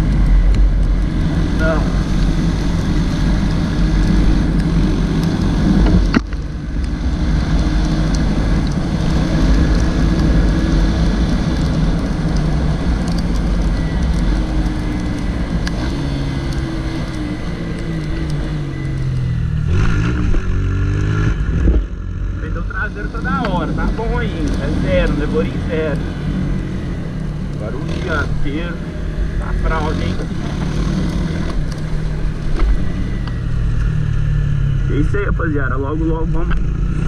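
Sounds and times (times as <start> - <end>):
motorcycle engine running: 0.0 - 35.3, 36.0 - 37.0
wind and road noise: 0.0 - 37.0.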